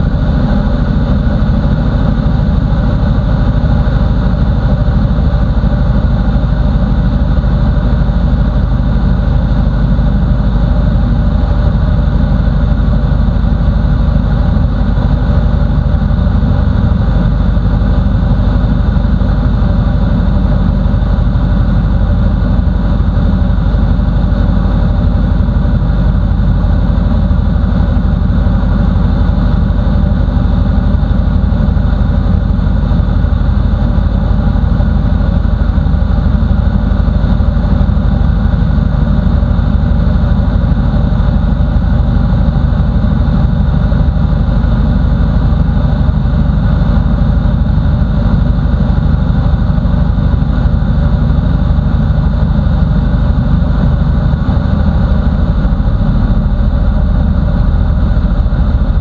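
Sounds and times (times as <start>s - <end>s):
aircraft engine drone in cockpit: 0.0s - 59.0s.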